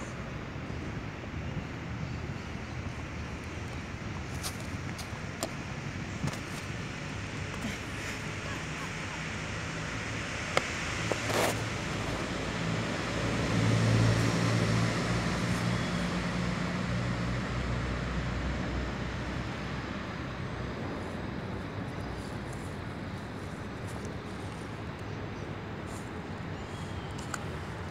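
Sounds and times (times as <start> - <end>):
road traffic noise: 0.0 - 27.9
vehicle engine hum: 2.6 - 27.9.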